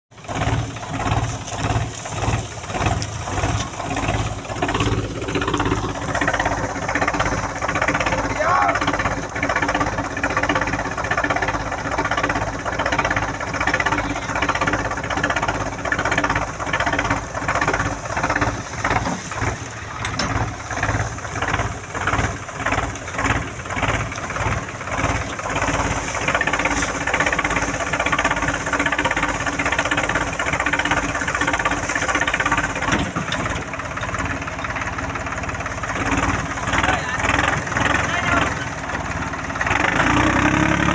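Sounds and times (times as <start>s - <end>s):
tractor diesel engine running: 0.1s - 40.9s.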